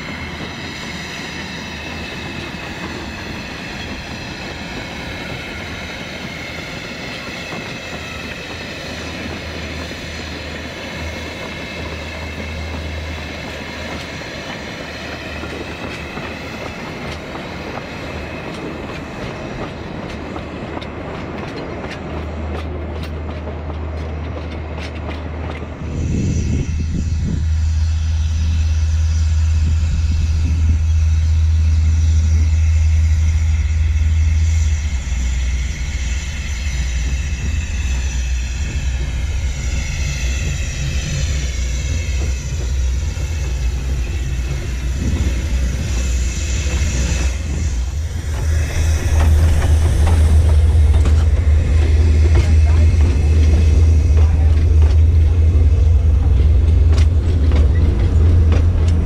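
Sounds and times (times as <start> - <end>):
steam hissing: 0.0 - 21.1, 25.6 - 59.0
carriages clicking over rail joints: 0.0 - 26.6, 35.7 - 59.0.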